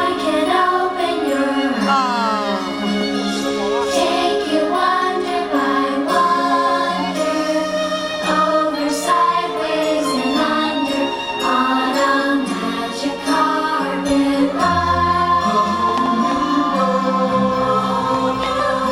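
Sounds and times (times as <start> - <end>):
music with choir singing: 0.0 - 18.9.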